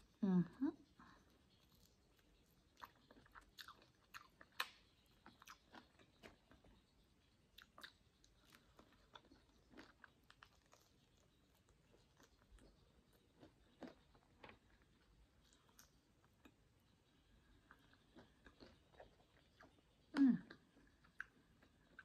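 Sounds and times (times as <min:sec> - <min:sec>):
chewing and mouth smacks: 0:01.4 - 0:22.0.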